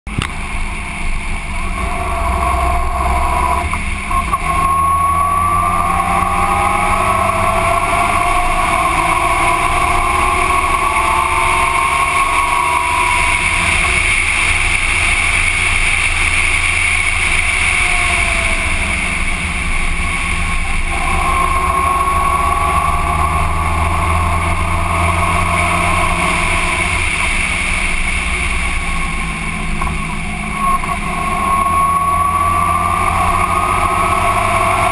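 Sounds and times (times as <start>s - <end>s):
motorcycle engine running: 0.0s - 34.9s
wind and road noise: 0.0s - 34.9s.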